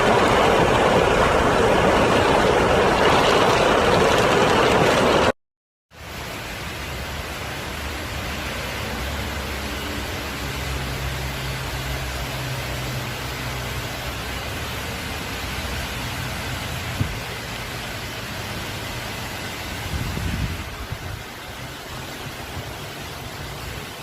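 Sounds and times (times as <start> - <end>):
heavy rain hissing: 0.0 - 5.3, 6.0 - 24.0.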